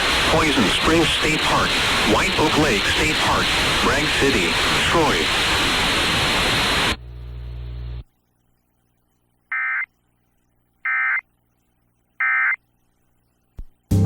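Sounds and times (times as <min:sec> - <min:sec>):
radio hiss and hum: 0:00.0 - 0:13.6.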